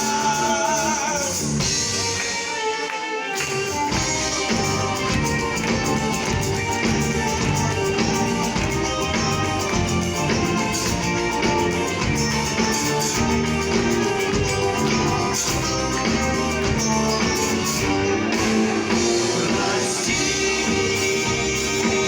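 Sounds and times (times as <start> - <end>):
electric guitar: 0.0 - 22.0
instrumental pop band: 0.0 - 22.0.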